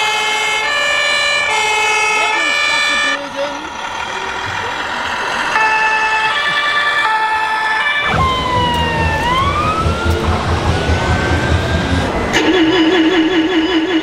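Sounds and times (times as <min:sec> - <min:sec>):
two-tone siren: 0:00.0 - 0:03.3, 0:04.8 - 0:14.0
low diesel engine rumble: 0:00.0 - 0:14.0
wailing siren: 0:00.0 - 0:14.0.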